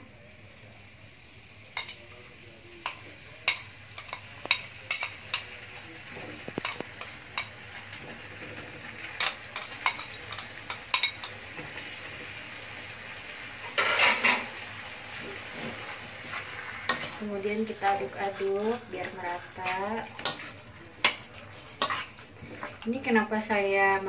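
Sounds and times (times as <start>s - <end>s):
faint wok sizzle: 0.0s - 24.0s.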